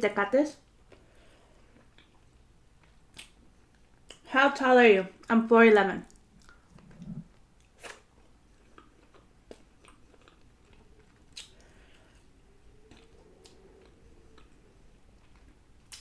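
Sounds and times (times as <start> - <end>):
person chewing food: 0.7 - 4.2, 6.0 - 16.0.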